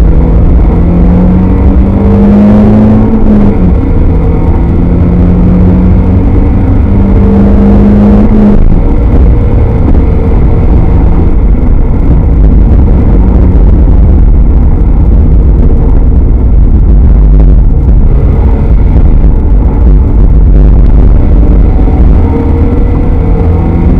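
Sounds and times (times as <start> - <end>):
car engine heard from cockpit: 0.0 - 23.9
road noise rumble: 0.0 - 23.9.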